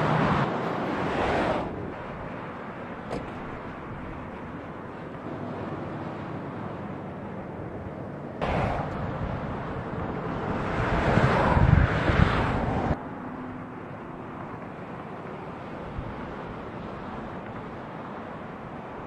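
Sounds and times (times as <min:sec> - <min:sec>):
rushing vehicle: 0:00.0 - 0:19.0.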